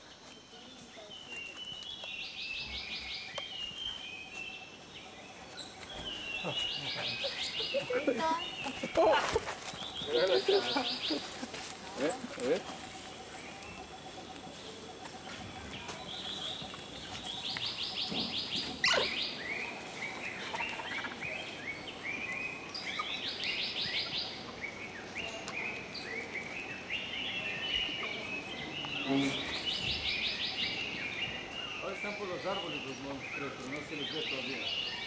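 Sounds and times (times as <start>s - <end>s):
bird trilling and chirping: 1.2s - 35.0s.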